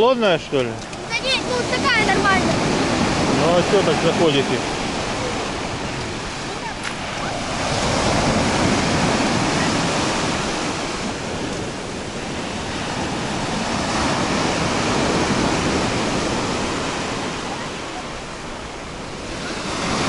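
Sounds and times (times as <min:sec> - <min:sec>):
surf breaking on sand shore: 0:00.0 - 0:20.0.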